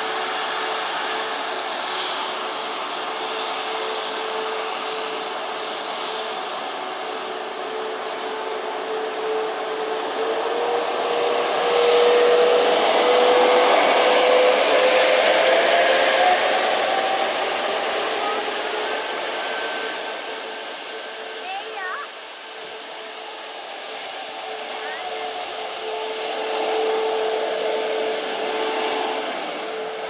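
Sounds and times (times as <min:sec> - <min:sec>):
jet engines whining: 0:00.0 - 0:30.0.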